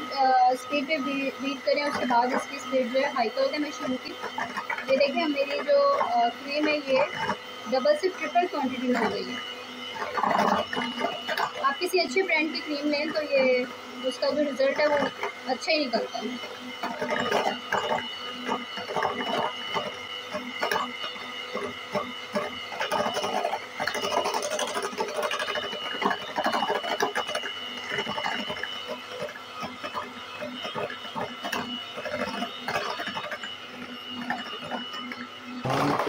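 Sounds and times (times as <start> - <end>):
beaters clicking and scraping: 0.0 - 36.0
electric hand mixer whining: 0.0 - 36.0.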